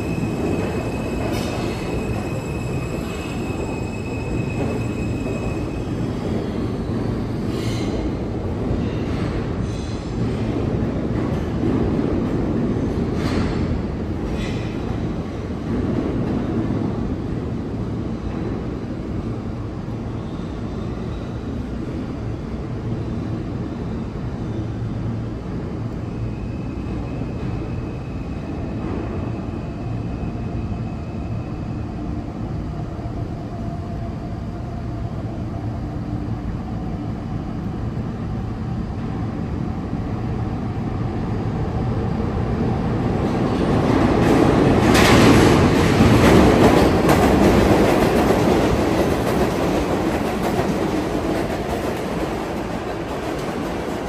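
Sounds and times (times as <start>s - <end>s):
subway train rumble: 0.0s - 54.0s.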